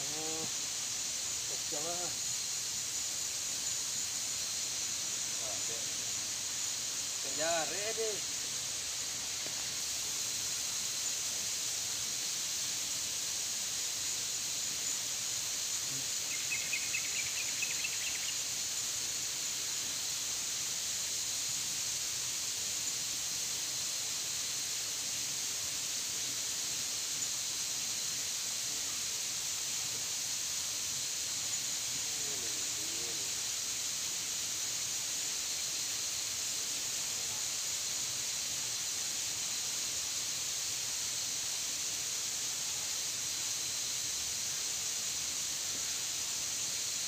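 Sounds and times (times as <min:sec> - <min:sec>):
insect chorus hiss: 0:00.0 - 0:47.0.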